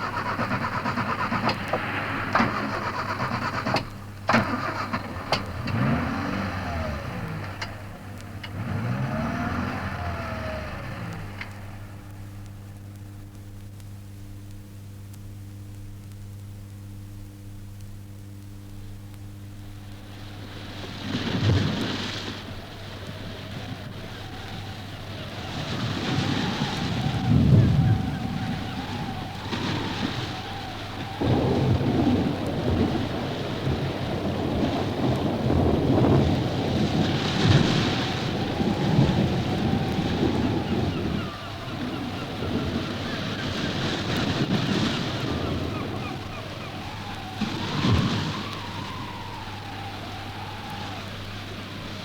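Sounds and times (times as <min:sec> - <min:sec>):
thunder rolling: 0:00.0 - 0:12.8, 0:19.9 - 0:52.0
faint hiss: 0:00.0 - 0:52.0
low electrical hum: 0:00.0 - 0:52.0.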